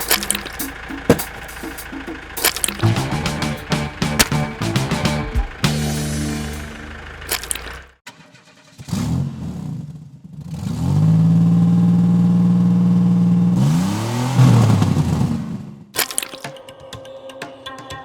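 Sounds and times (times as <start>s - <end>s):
vehicle engine revving: 0.0s - 15.8s.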